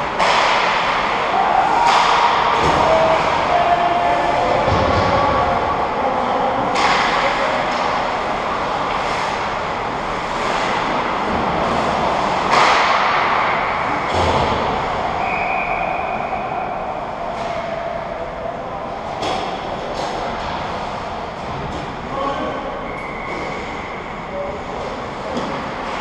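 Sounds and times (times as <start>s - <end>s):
hockey sticks and puck clacking: 0.0s - 5.6s, 6.6s - 16.5s, 19.1s - 23.8s, 24.7s - 26.0s
ice rink crowd noise: 0.0s - 26.0s.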